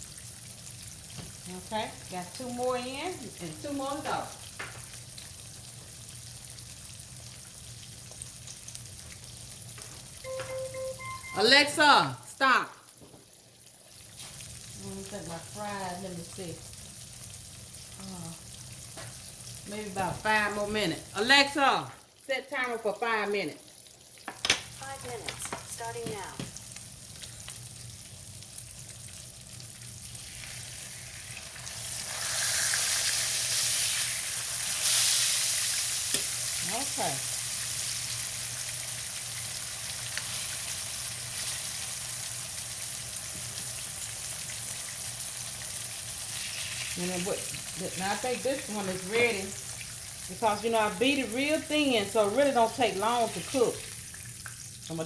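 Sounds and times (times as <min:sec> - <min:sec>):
meat frying in hot oil: 0:00.0 - 0:10.2, 0:12.8 - 0:55.0.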